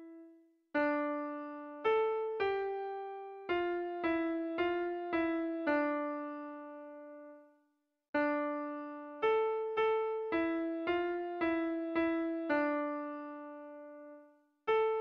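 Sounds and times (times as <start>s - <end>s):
electric piano melody: 0.8s - 7.4s, 8.2s - 15.0s.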